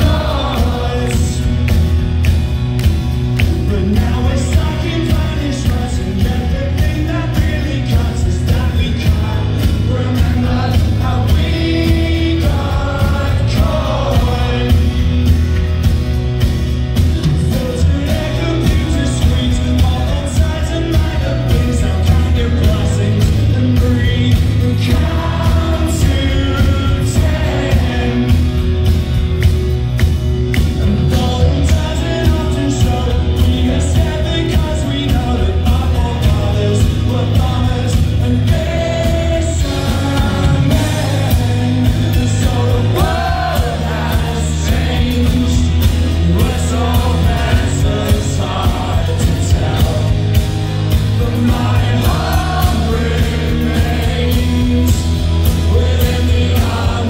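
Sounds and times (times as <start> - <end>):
person singing: 0.0 - 1.8, 3.4 - 15.2, 17.2 - 28.8, 30.7 - 57.0
bass guitar: 0.0 - 57.0
drums: 0.0 - 57.0
electric guitar: 0.0 - 57.0.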